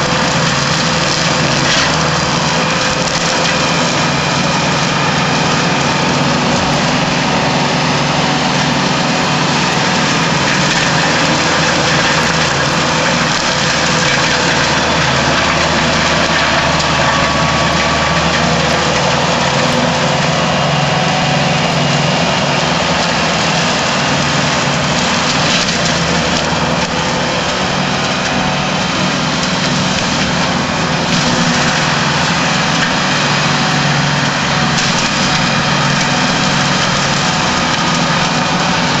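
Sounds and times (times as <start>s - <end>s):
forestry mulcher shredding brush: 0.0s - 39.0s
tractor engine running: 0.0s - 39.0s.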